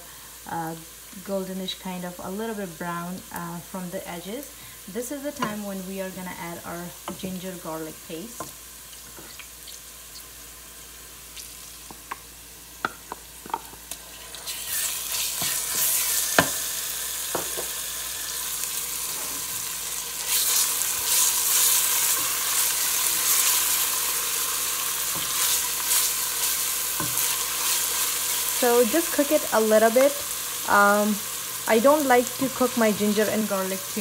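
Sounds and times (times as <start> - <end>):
onions frying in hot oil: 0.0 - 34.0.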